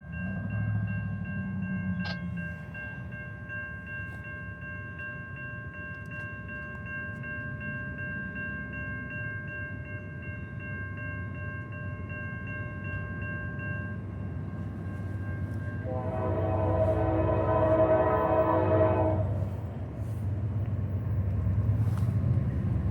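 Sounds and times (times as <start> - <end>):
freight train rumble: 0.0 - 22.9
railroad bell ringing: 0.0 - 22.9.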